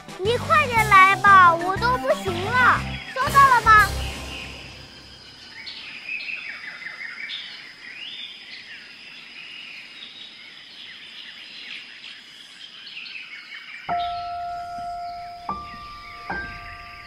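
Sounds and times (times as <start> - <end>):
birds chirping and twittering: 0.0 - 17.0.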